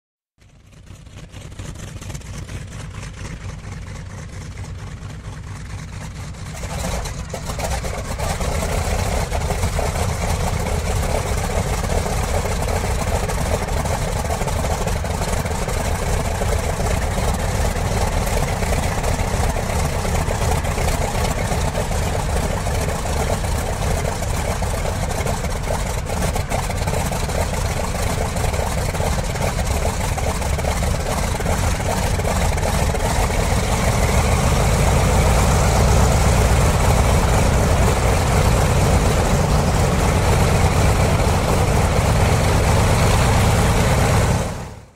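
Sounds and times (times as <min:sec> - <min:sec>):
model radial engine running: 0:01.0 - 0:44.8.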